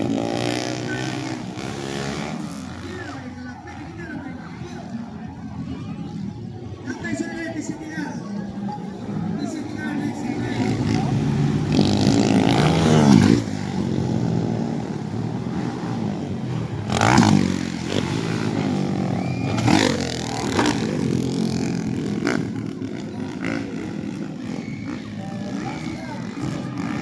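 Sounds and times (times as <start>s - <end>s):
dirt bike engines running: 0.0s - 27.0s.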